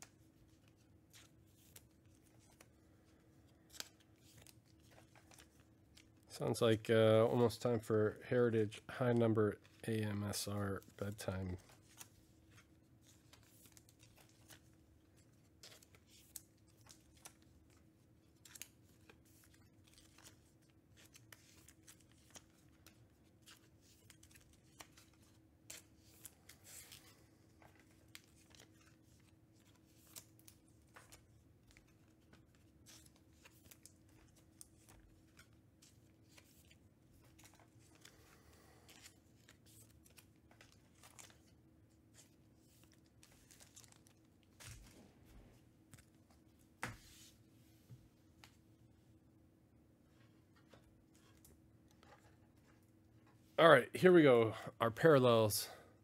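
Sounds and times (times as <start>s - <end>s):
trading cards clicking and rustling: 0.0s - 7.8s, 9.0s - 47.0s.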